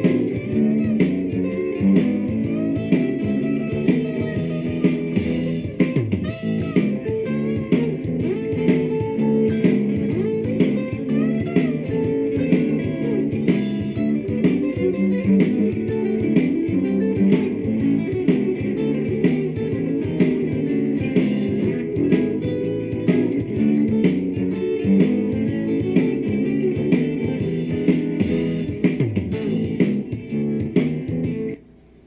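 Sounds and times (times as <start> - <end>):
bass line: 0.0 - 31.6
electric guitar playing blues: 0.0 - 31.6.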